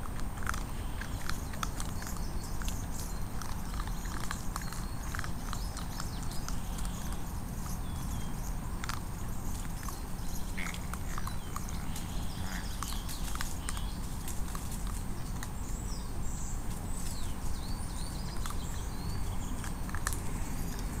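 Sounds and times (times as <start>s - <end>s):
crunching dry leaves: 0.0s - 21.0s
pups chirping: 0.0s - 21.0s
steady low rumble: 0.0s - 21.0s.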